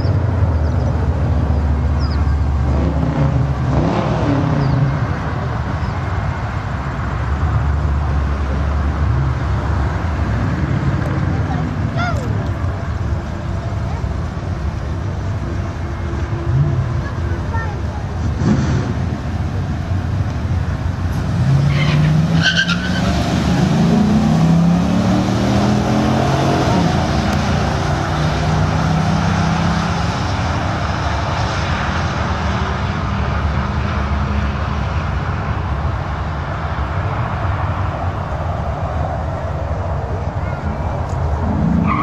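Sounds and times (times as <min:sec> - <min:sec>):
pickup engine accelerating: 0:00.0 - 0:42.0.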